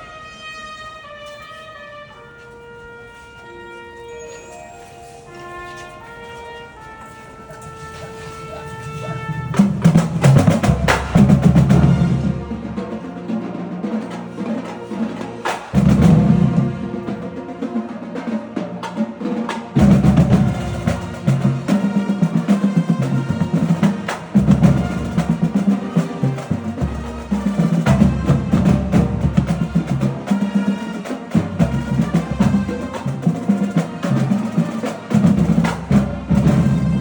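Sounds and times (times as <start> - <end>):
marching band music: 0.0 - 37.0
drumline playing: 4.6 - 37.0.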